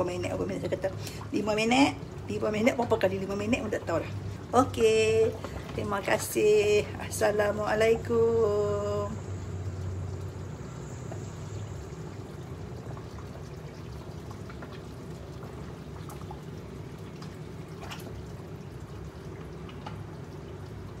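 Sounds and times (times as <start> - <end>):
soup bubbling in a pot: 0.0 - 21.0.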